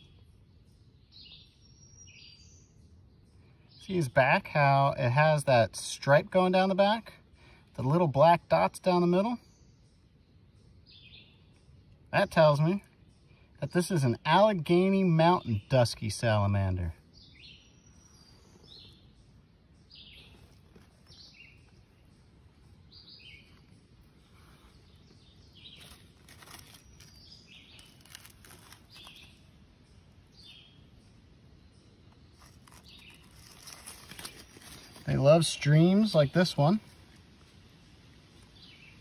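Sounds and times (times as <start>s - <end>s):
birds chirping: 0.0s - 39.0s
outdoor background hiss: 0.0s - 39.0s.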